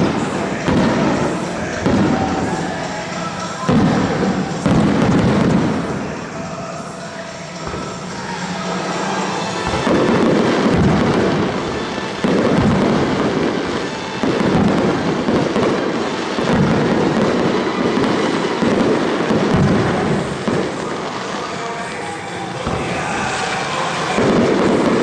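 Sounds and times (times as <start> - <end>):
fireworks booming: 0.0 - 25.0
fireworks crackling: 0.0 - 25.0
show music: 0.0 - 25.0.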